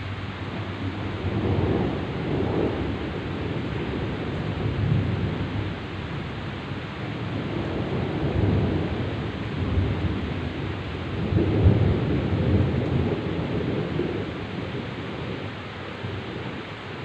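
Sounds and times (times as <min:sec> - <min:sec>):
heavy rain pouring: 0:00.0 - 0:17.0
rolling thunder: 0:00.0 - 0:17.0.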